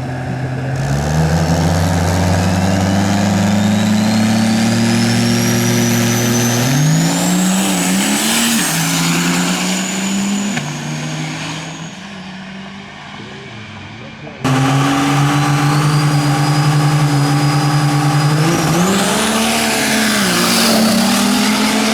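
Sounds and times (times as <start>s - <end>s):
diesel truck engine racing: 0.0s - 21.9s
turbocharger whine: 0.0s - 21.9s.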